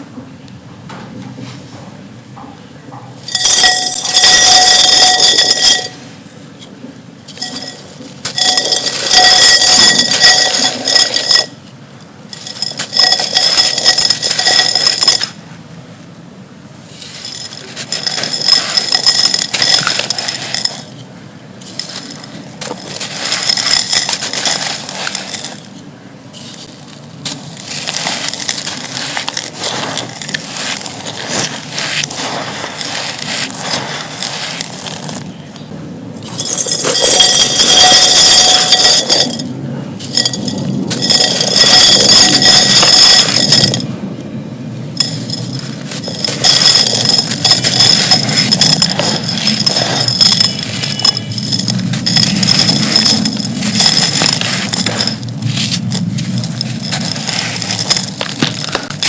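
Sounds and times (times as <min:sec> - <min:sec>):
dry clay crushing and crumbling: 0:03.2 - 0:06.0, 0:07.3 - 0:11.6, 0:12.3 - 0:15.4, 0:16.9 - 0:43.9, 0:45.0 - 0:59.0
high ringing clink: 0:03.2 - 0:06.2, 0:07.3 - 0:11.7, 0:12.3 - 0:15.4, 0:16.9 - 0:21.0, 0:21.6 - 0:25.8, 0:26.4 - 0:44.0, 0:45.0 - 0:59.0.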